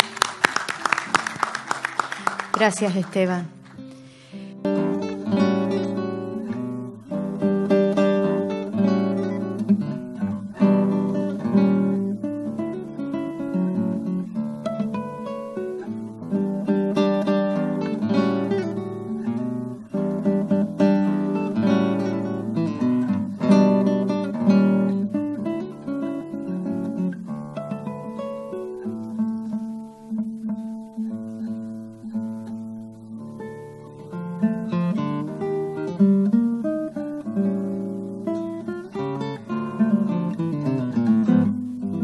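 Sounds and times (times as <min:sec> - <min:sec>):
acoustic guitar music: 0:00.0 - 0:42.0.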